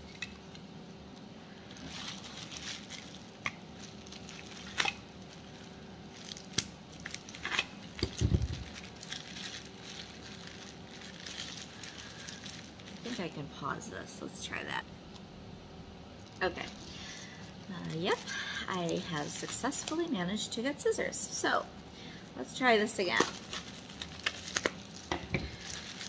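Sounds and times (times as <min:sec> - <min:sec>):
plastic packaging crinkling: 0:00.0 - 0:13.5, 0:16.2 - 0:20.7, 0:22.0 - 0:26.0.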